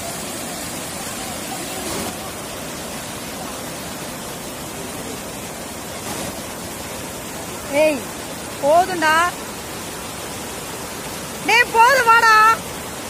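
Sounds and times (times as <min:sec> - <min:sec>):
floodwater rushing over dam: 0:00.0 - 0:13.0.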